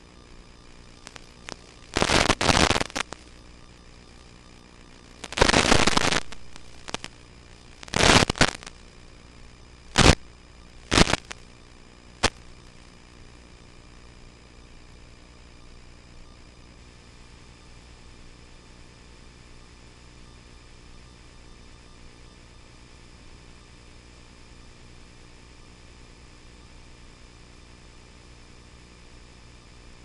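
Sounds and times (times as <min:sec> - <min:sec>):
crackling static bursts: 0:00.0 - 0:30.0
steady radio hiss: 0:00.0 - 0:30.0.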